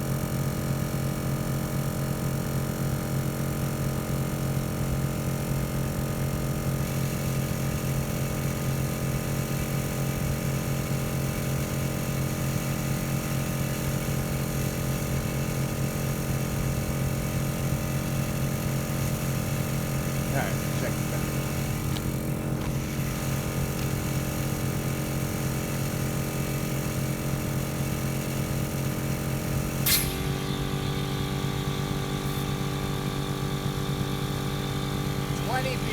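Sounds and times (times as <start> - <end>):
air compressor running: 0.0 - 35.9.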